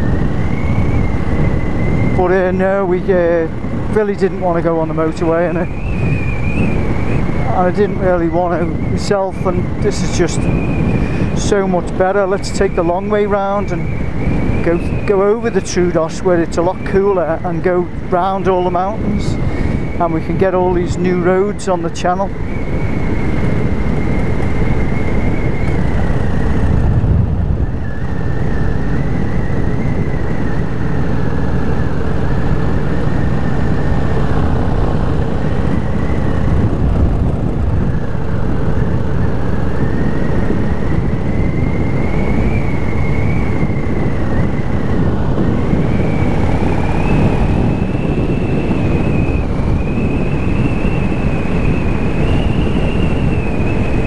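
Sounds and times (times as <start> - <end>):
road and wind noise: 0.0 - 54.0
thin whine: 0.0 - 54.0.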